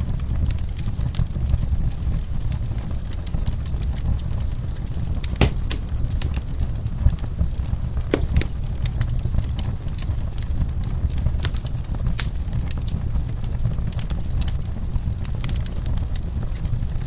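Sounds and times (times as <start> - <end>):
loud fire pops: 0.0 - 17.0
wood fire crackling: 0.0 - 17.0.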